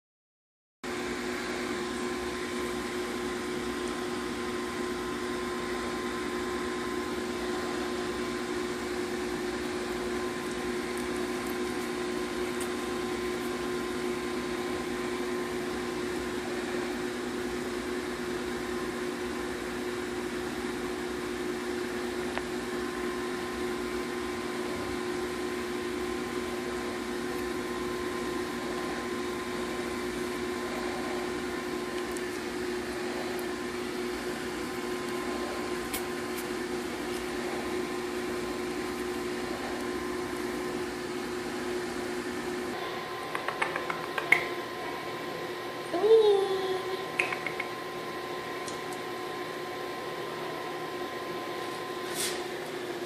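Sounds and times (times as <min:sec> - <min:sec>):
fan motor whirring: 0:00.9 - 0:53.0.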